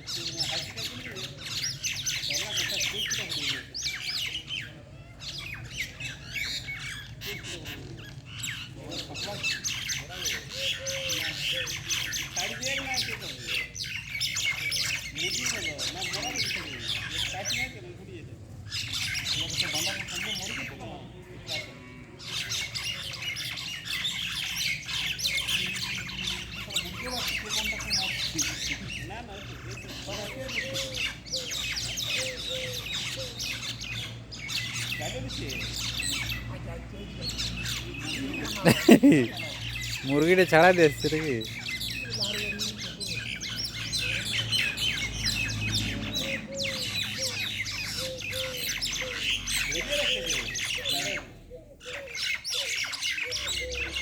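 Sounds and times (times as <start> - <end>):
birds squawking and chirping: 0.0 - 54.0.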